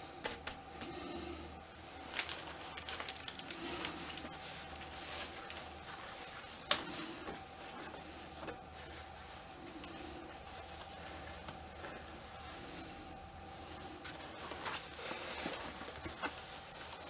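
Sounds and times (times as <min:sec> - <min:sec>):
fabric rustling: 0:01.7 - 0:17.0.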